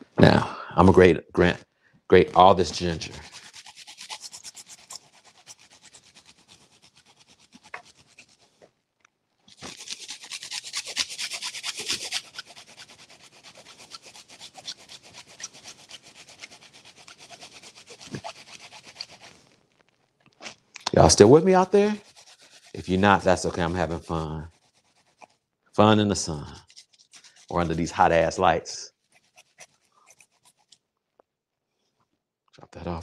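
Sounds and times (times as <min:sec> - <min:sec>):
ginger grating rasps: 0:02.3 - 0:08.7, 0:09.5 - 0:30.8.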